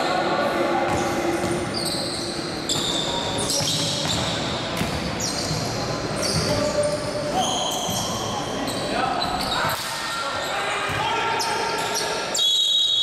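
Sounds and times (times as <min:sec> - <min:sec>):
echoing sports hall hum: 0:00.0 - 0:13.0
sneakers squeaking on gym floor: 0:00.9 - 0:13.0.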